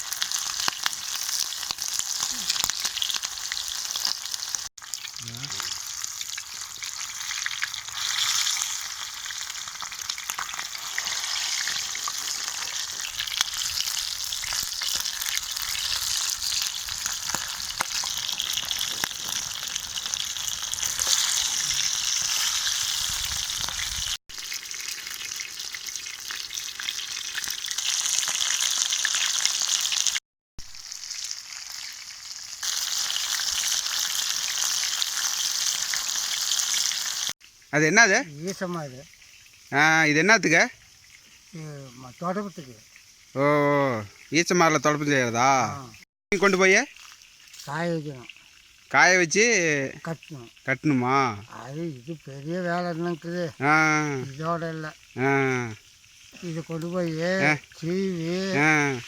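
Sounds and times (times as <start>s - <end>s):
chicken frying in oil: 0.0s - 59.0s.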